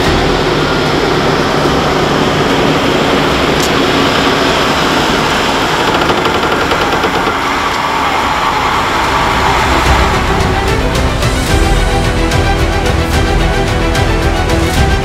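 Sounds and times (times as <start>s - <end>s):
diesel farm machinery running: 0.0s - 15.0s.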